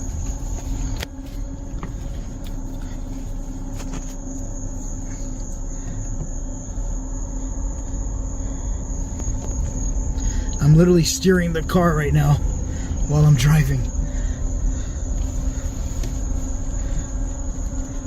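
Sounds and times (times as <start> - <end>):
crickets trilling: 0.0 - 18.0
truck engine rumbling: 0.0 - 18.0.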